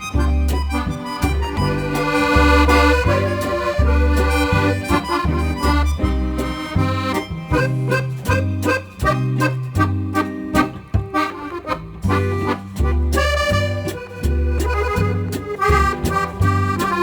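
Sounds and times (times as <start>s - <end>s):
accordion melody with bass line: 0.0s - 17.0s.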